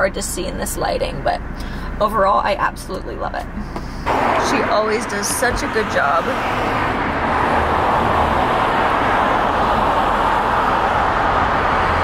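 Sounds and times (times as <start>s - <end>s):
rushing noise in car cabin: 2.2s - 12.0s.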